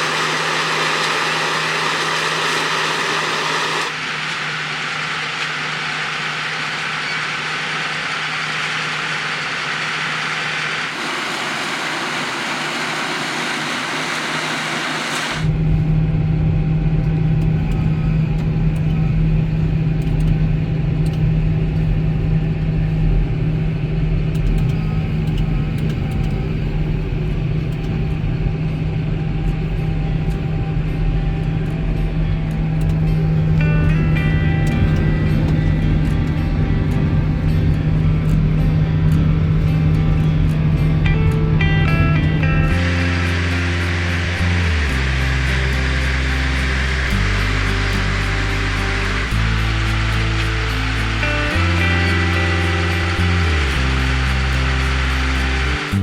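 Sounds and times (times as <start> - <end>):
farm machinery running: 0.0 - 56.0
low engine hum: 0.0 - 56.0.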